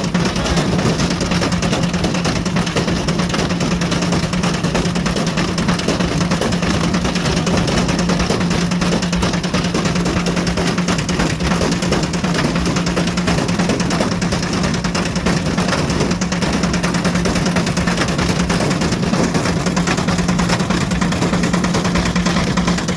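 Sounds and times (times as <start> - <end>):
brick clattering in drum: 0.0 - 22.9
washing machine motor hum: 0.0 - 22.9.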